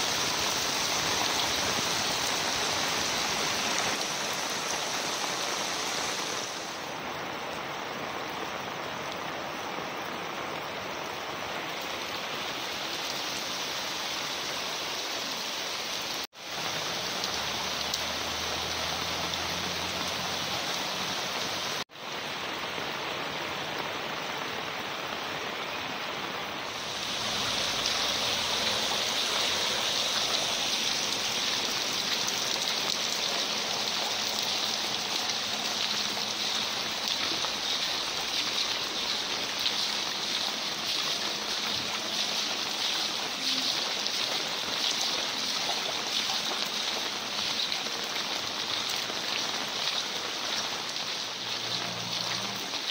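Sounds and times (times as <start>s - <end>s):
rain falling: 0.0s - 52.9s
water rushing down street: 0.0s - 52.9s.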